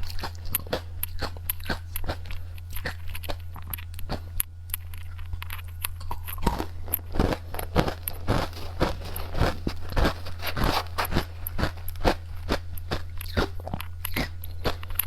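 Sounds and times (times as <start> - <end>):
candy crunching while chewed: 0.0 - 15.0
steady low hum: 0.0 - 15.0.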